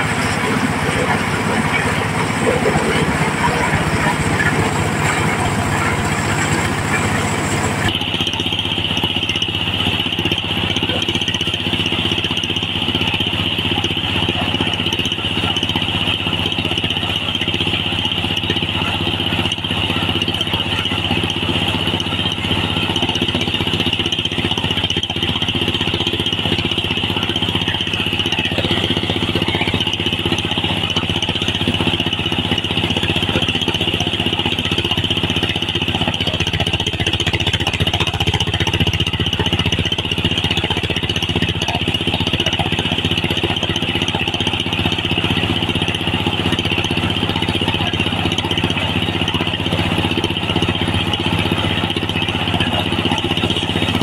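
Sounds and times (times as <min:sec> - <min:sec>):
diesel engine running: 0:00.0 - 0:54.0
threshing drum whine: 0:00.0 - 0:54.0.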